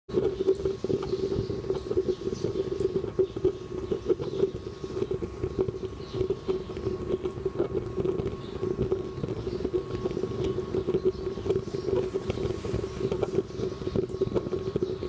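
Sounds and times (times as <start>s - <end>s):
stove flame fluttering low tone: 0.1s - 15.0s
fire crackles and pops: 0.2s - 15.0s.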